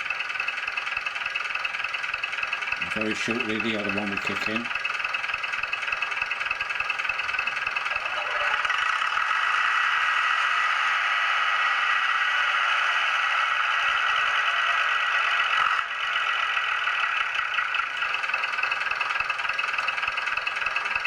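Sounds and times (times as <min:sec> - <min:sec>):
recorded diesel engines idling: 0:00.0 - 0:21.0.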